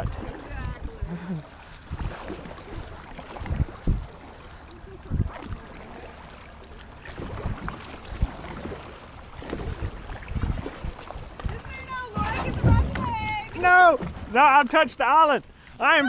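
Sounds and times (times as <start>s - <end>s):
paddle strokes splashing water: 0.0s - 16.0s
paddle thudding on hull: 0.0s - 16.0s.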